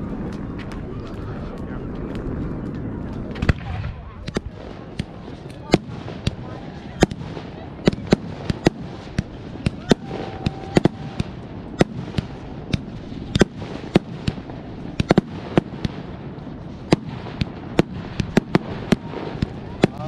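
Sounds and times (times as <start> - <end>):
fireworks bangs and cracks: 0.0 - 20.0
fireworks crackle: 0.0 - 20.0.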